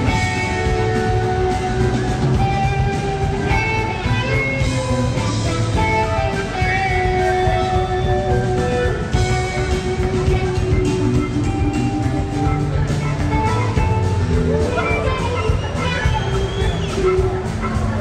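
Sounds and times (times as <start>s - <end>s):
electric guitar lead notes: 0.0s - 18.0s
live rock band playing: 0.0s - 18.0s.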